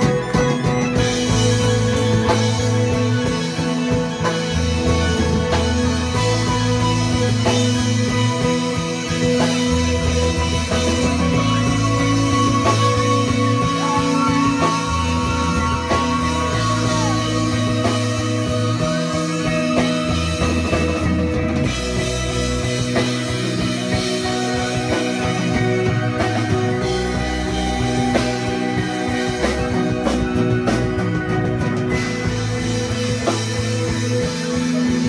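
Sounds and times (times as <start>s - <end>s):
drum kit: 0.0s - 35.0s
electric bass line: 0.0s - 35.0s
electric guitar: 0.0s - 35.0s
keyboards: 0.0s - 35.0s.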